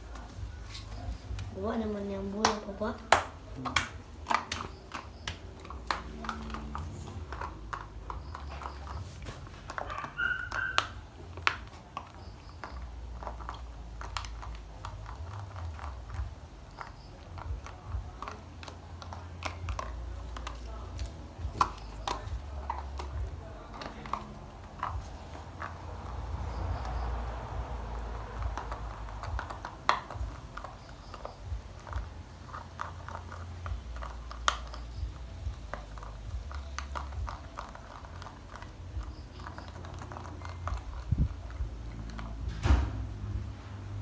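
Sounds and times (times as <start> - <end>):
sharp clicks and taps: 0.1 - 43.9.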